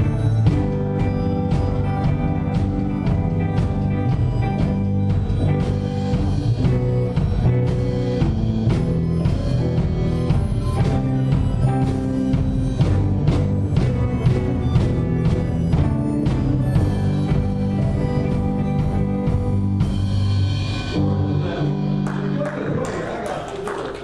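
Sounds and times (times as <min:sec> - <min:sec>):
drum kit beat: 0:00.0 - 0:23.1
electric guitar: 0:00.0 - 0:24.0
live band playing: 0:00.0 - 0:24.0.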